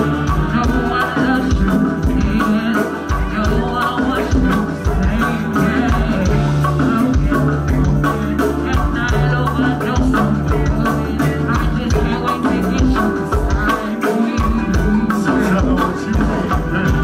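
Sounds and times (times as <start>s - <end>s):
bass line: 0.0s - 17.0s
live band music: 0.0s - 17.0s
steady drum beat: 0.0s - 17.0s.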